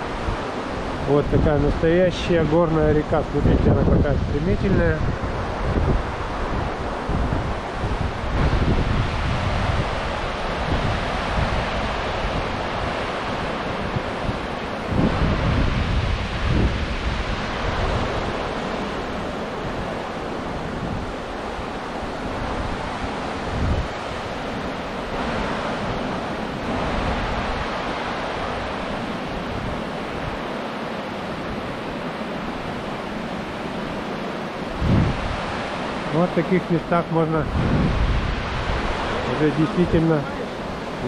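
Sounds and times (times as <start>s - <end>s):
river rushing over stones: 0.0s - 41.0s
wind buffeting microphone: 0.0s - 41.0s.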